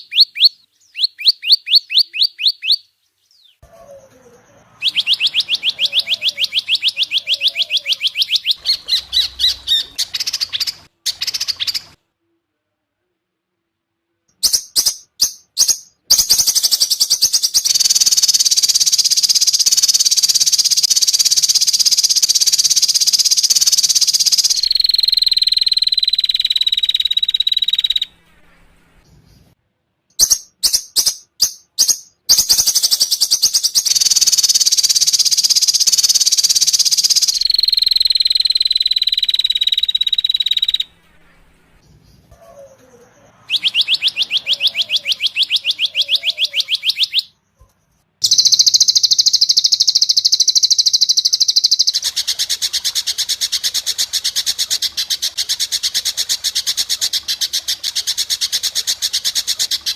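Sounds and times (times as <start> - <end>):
recorded songbird song: 0.0 - 12.4, 14.1 - 59.9.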